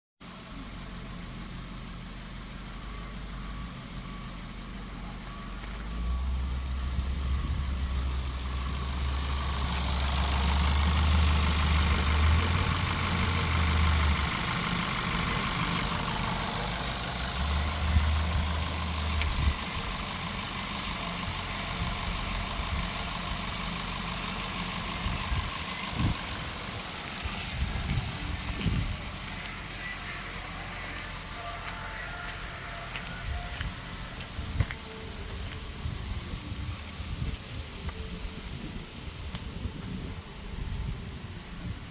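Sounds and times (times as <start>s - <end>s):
car engine idling: 0.2s - 41.9s.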